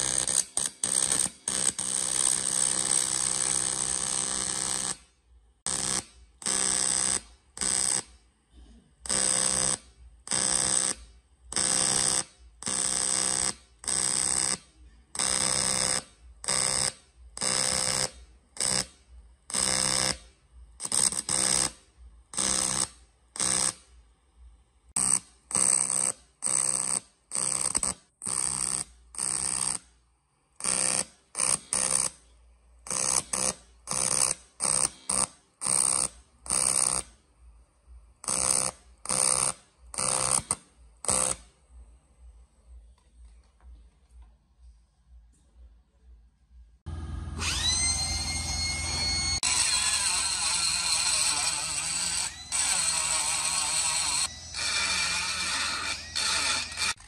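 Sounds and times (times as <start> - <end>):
welding arc buzzing: 0.0 - 5.1, 5.7 - 8.2, 9.0 - 23.9, 25.0 - 29.9, 30.5 - 32.2, 32.9 - 37.2, 38.2 - 41.5, 46.9 - 57.0.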